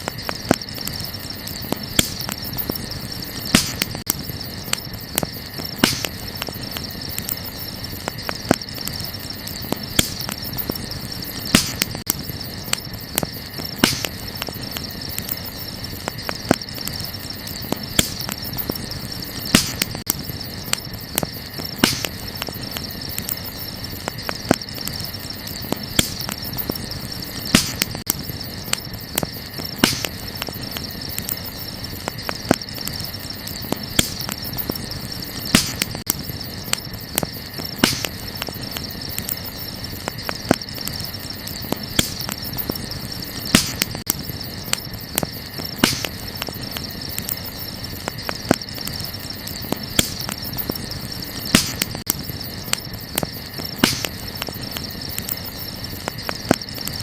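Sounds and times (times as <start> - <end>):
fire popping: 0.0 - 57.0
high-pitched insect chorus: 0.0 - 57.0
wood fire crackling: 0.0 - 57.0.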